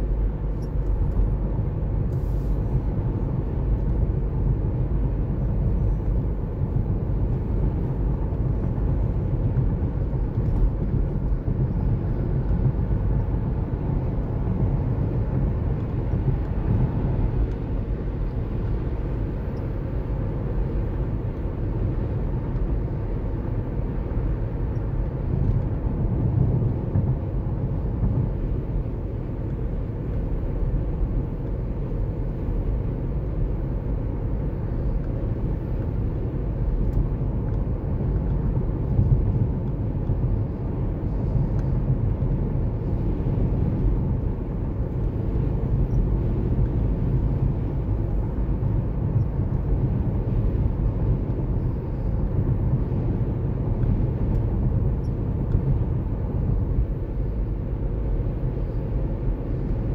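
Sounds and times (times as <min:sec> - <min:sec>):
car road noise from inside: 0:00.0 - 0:59.9.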